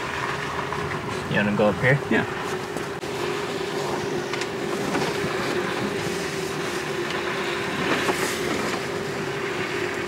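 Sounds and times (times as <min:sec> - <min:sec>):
steady electric hum: 0:00.0 - 0:10.0.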